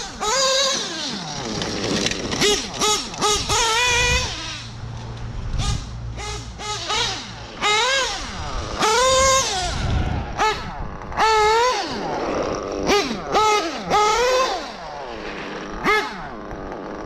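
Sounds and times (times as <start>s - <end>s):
rc car nitro engine revving: 0.0s - 17.0s.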